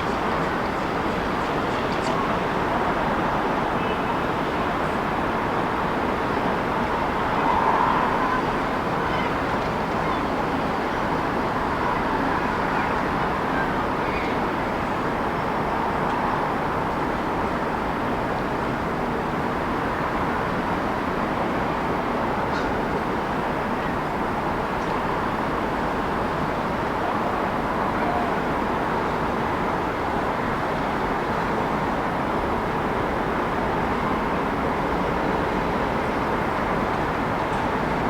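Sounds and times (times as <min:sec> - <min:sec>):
city traffic noise: 0:00.0 - 0:38.0.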